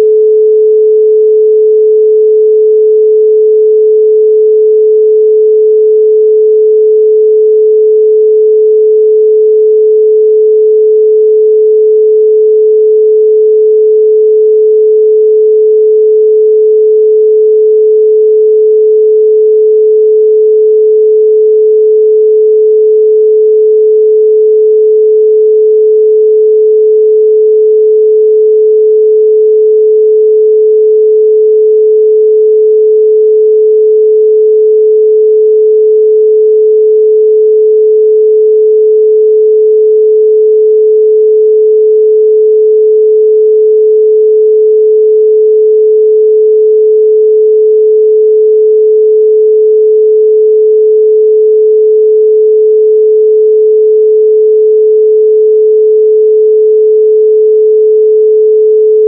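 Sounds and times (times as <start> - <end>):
pure sine tone: 0.0 - 59.0.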